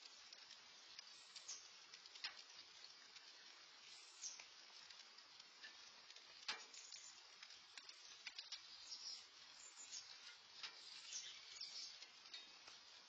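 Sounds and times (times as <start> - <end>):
light rain hiss: 0.0 - 13.0
raindrops ticking: 0.0 - 13.0.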